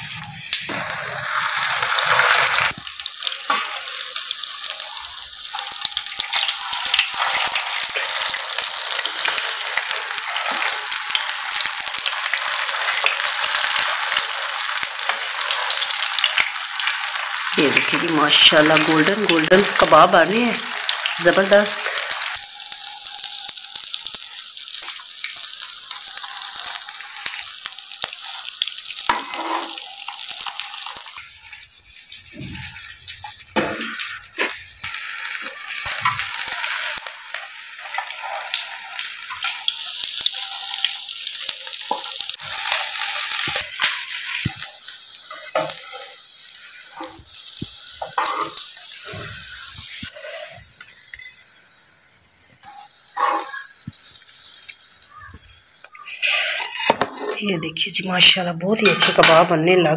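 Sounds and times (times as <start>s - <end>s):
kebabs sizzling on a griddle: 0.0s - 59.2s.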